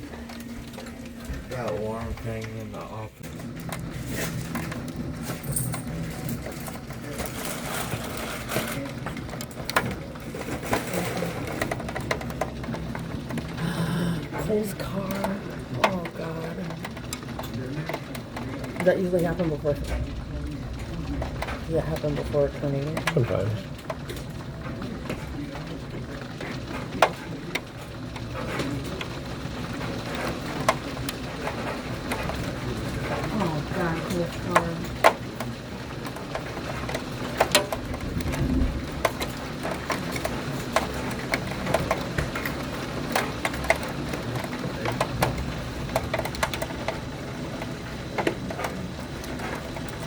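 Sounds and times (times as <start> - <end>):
rain: 0.0 - 50.0.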